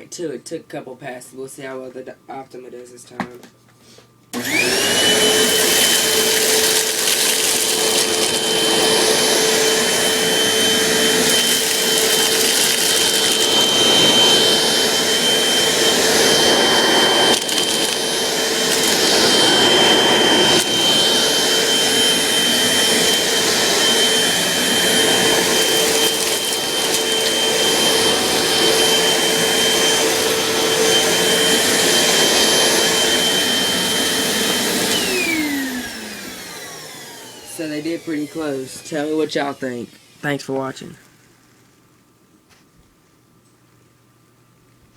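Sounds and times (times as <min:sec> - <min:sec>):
vacuum cleaner running: 0:04.3 - 0:41.2.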